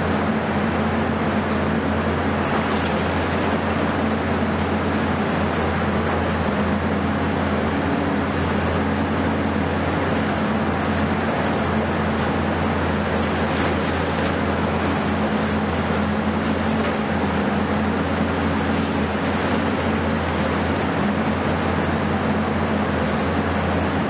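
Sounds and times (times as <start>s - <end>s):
excavator diesel engines running: 0.0s - 24.0s.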